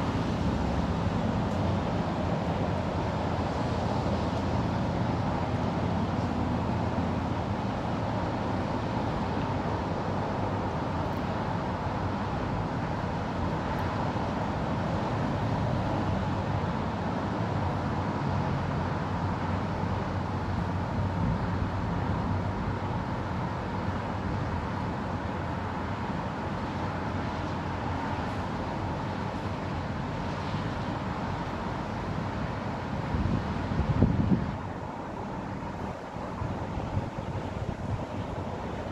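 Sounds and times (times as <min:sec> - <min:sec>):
road traffic hum: 0:00.0 - 0:38.9.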